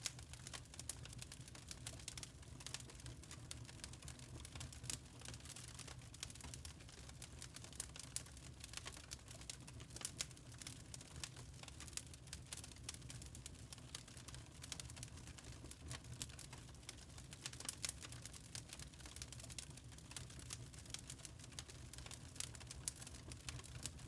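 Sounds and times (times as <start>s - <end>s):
burning charcoal crackling: 0.0s - 24.0s.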